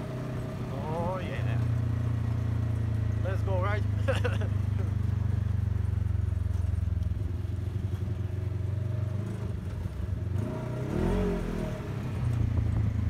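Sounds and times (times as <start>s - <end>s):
buggy engine droning: 0.0s - 13.0s.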